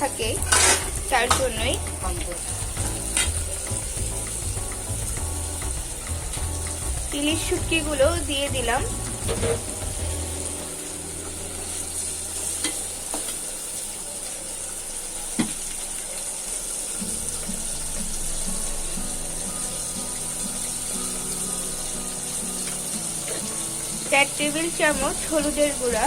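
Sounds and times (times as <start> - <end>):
fish and onion sizzling in oil: 0.0 - 26.0.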